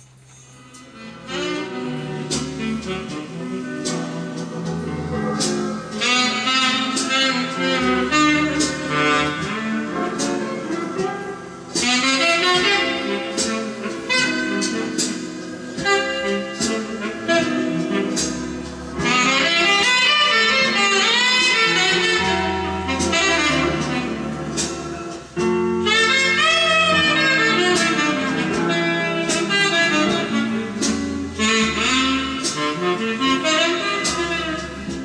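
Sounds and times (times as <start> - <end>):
jazz saxophone lead: 0.6 - 35.0
bass and drum beat: 1.3 - 35.0.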